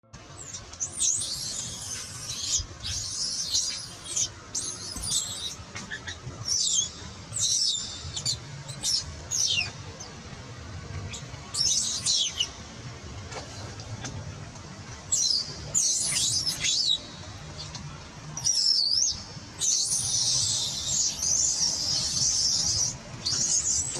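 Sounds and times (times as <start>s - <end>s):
birds chirping: 0.2s - 23.9s.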